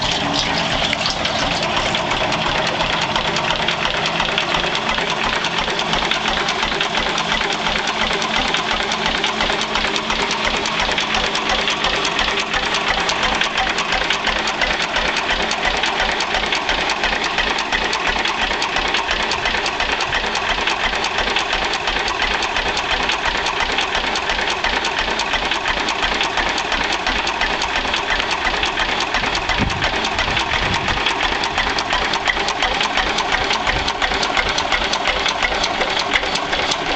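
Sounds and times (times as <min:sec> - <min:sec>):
stationary engine running: 0:00.0 - 0:36.9.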